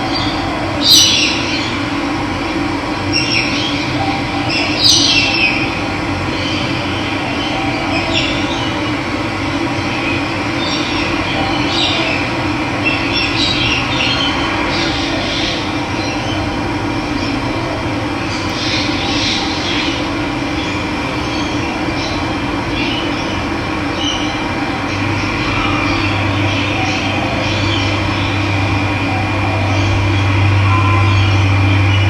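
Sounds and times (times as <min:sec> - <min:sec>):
birds chirping: 0:00.0 - 0:02.0, 0:03.0 - 0:17.6, 0:18.2 - 0:32.0.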